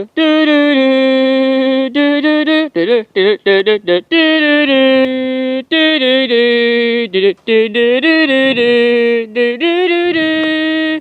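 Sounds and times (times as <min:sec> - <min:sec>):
person singing wordless tune: 0:00.0 - 0:11.0.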